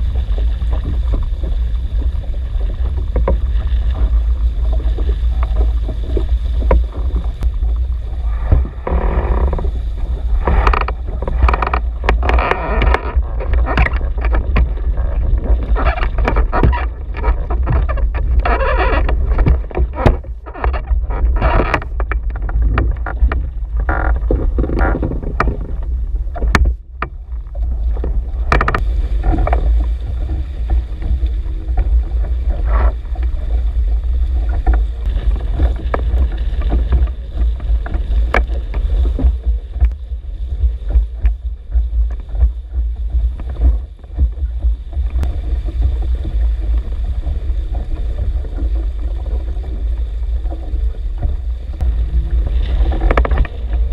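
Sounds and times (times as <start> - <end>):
water slapping and rushing along hull: 0.0 - 53.9
wind rumble on microphone: 0.0 - 53.9.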